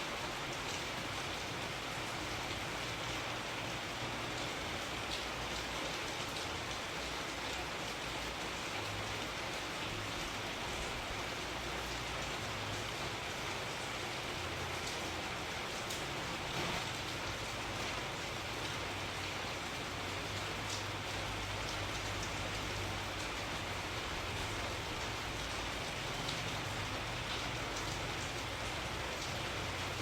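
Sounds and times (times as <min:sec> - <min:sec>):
steady rainfall hiss: 0:00.0 - 0:30.0.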